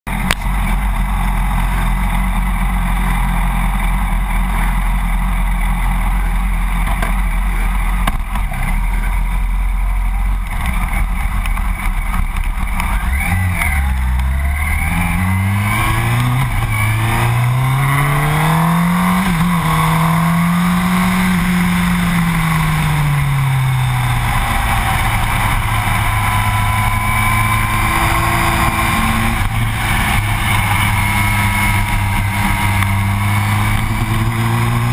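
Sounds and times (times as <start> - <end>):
motorcycle engine revving: 0.1 - 34.9
wind and road noise: 0.1 - 34.9.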